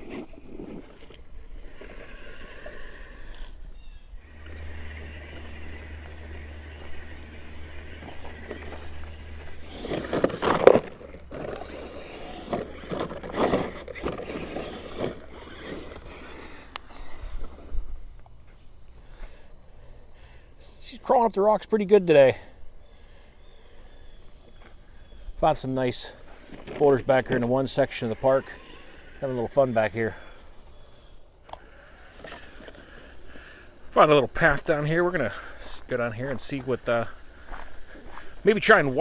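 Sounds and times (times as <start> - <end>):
steady low hum: 0.0 - 39.0
toy car grinding over rock: 0.0 - 39.0.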